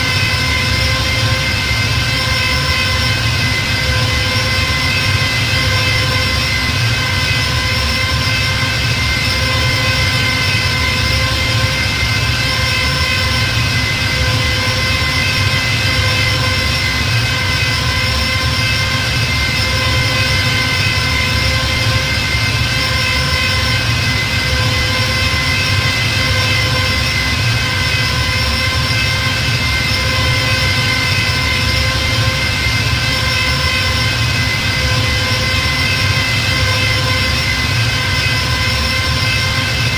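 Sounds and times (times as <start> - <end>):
spaceship engine drone: 0.0 - 39.9.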